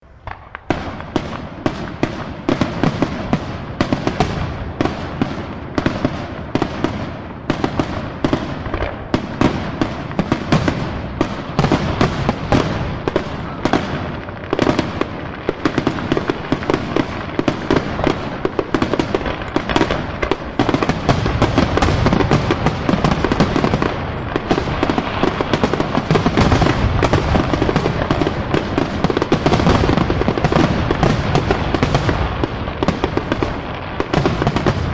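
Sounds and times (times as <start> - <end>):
fireworks bursting and crackling: 0.0 - 34.9.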